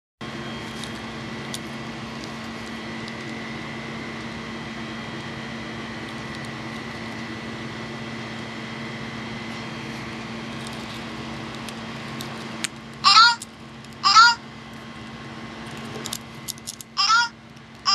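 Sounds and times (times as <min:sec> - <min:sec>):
fan-like background hum: 0:00.2 - 0:17.9.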